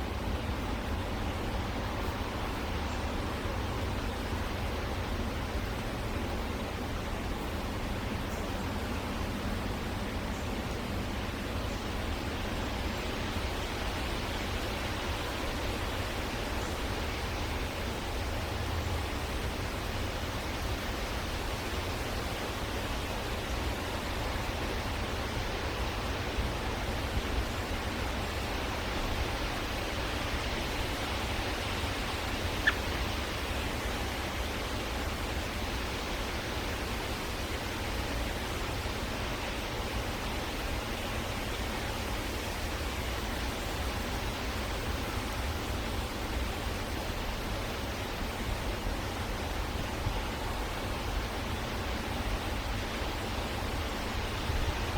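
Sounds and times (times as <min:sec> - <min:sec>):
outdoor background hiss: 0:00.0 - 0:54.9.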